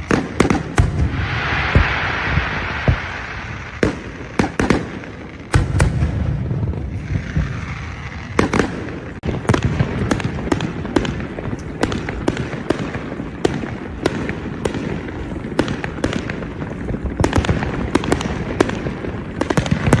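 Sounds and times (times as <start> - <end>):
fireworks bangs and crackles: 0.0 - 20.0
low fireworks rumble: 0.0 - 20.0.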